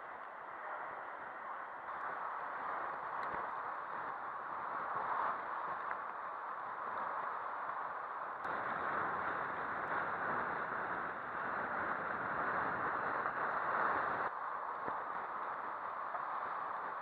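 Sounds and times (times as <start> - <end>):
wind and surf rushing: 0.0 - 17.0.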